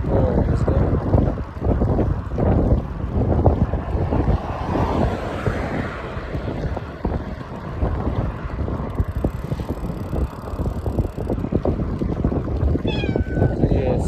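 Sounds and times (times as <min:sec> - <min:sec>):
road traffic noise: 0:00.0 - 0:14.0
wind rumbling on microphone: 0:00.0 - 0:14.0.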